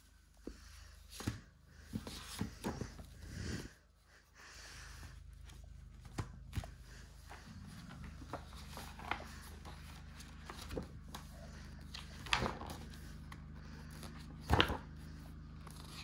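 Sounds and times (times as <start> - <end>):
low steady hum: 0.0 - 16.0
book pages rustling: 0.1 - 3.6, 5.0 - 16.0.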